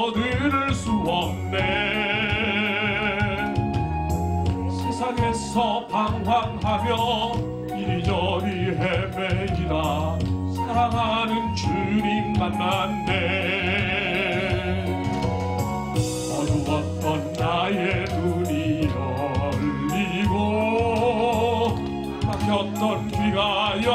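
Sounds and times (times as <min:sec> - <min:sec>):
instrumental accompaniment: 0:00.0 - 0:23.9
man singing into a microphone: 0:00.0 - 0:23.9.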